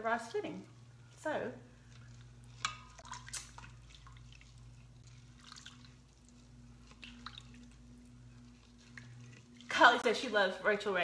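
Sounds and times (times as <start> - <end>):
low steady hum: 0.0 - 11.0
spatula stirring pudding in pot: 0.7 - 10.1.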